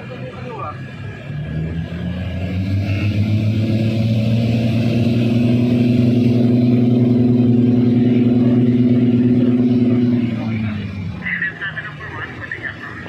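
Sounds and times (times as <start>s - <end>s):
twin piston aircraft engines droning: 0.0s - 13.0s.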